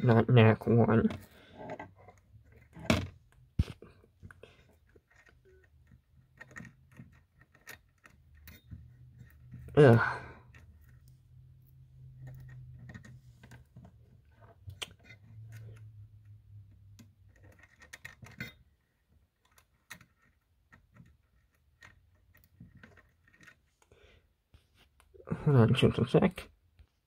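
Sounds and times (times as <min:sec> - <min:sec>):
wire clicking and scraping on terminals: 0:00.0 - 0:23.9.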